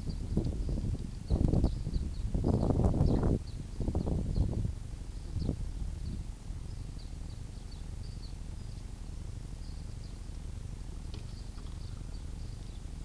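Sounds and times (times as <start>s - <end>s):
low wind rumble on microphone: 0.0s - 13.0s
small birds chirping: 0.0s - 13.0s.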